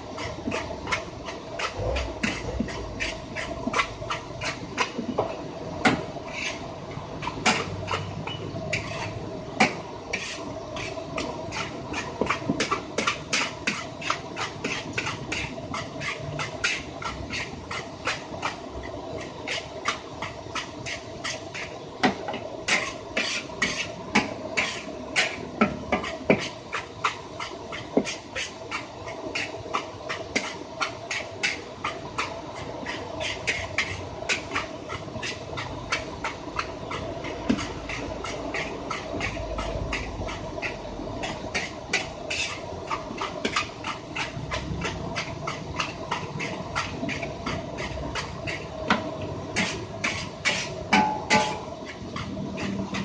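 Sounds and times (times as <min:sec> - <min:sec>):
steady hum: 0:00.0 - 0:53.0
metal spatula scraping a wok: 0:00.1 - 0:05.2, 0:05.8 - 0:53.0.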